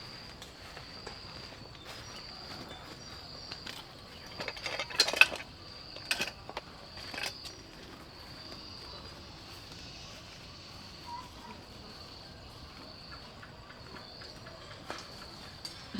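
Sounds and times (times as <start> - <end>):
insects chirring: 0.0 - 15.9.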